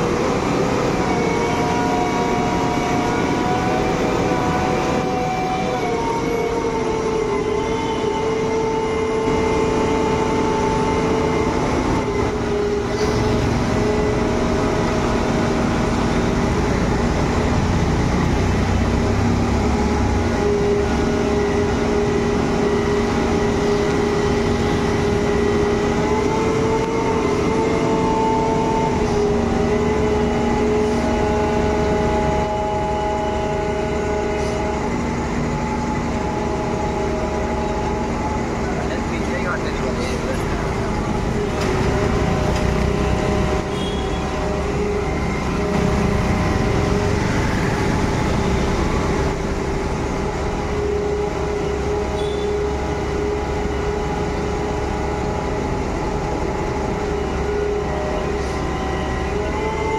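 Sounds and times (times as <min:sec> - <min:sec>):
pump engine and hydraulics whining: 0:00.0 - 0:59.9.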